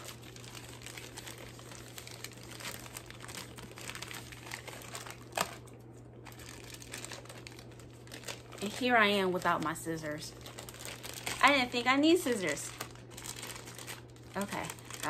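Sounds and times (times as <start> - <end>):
packaging crinkling and rustling: 0.0 - 15.0
small crackles: 0.0 - 15.0.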